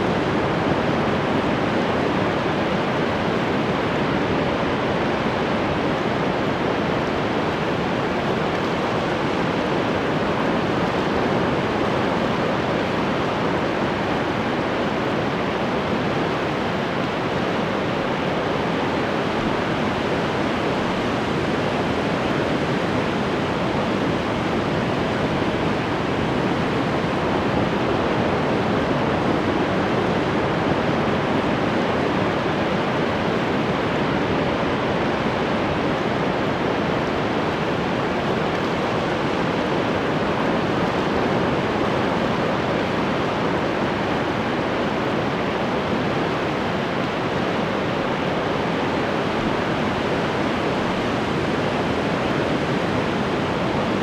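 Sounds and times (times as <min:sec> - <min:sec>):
ocean waves breaking: 0:00.0 - 0:21.3, 0:31.6 - 0:54.0.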